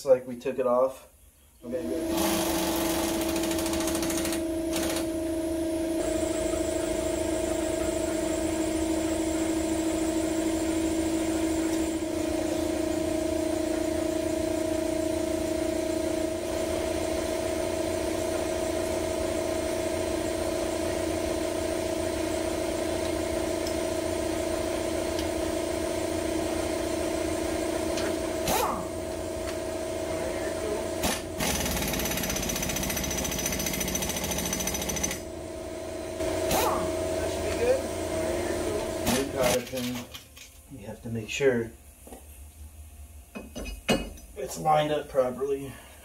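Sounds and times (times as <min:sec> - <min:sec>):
air compressor motor humming: 0:01.6 - 0:46.0.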